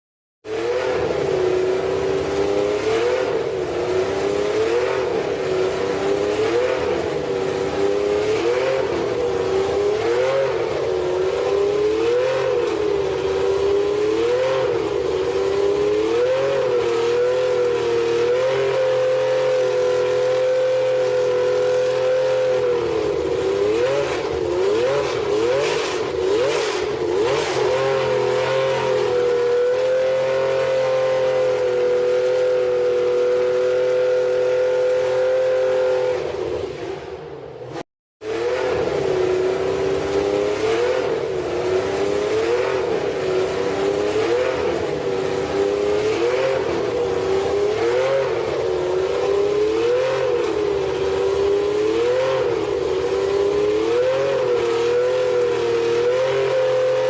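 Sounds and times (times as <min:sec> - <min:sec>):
racing car engine throttle blips: 0:00.4 - 0:57.0.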